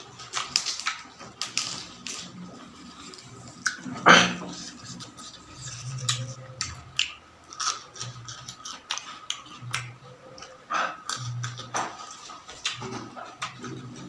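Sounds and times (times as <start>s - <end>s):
chewing food with crunches: 0.0s - 14.0s.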